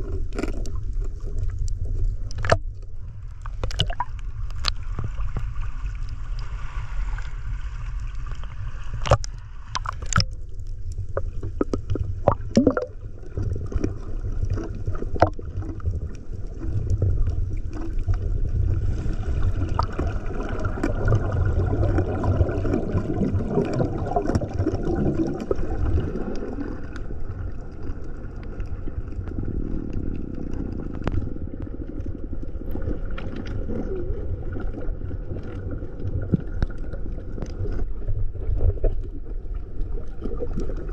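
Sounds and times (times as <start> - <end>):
muffled underwater rumble: 0.0 - 40.9
water gurgling and sloshing: 0.0 - 40.9.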